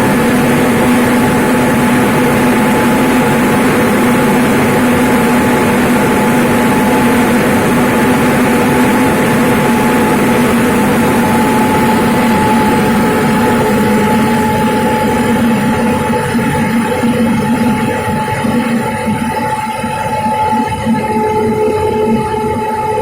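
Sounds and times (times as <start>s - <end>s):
rice milling machine droning: 0.0s - 23.0s.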